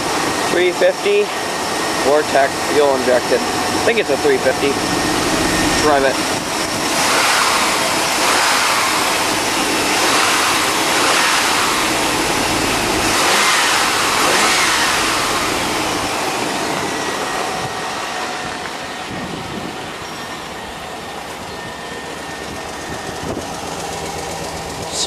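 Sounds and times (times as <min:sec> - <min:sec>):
car engine revving: 0:00.0 - 0:21.5.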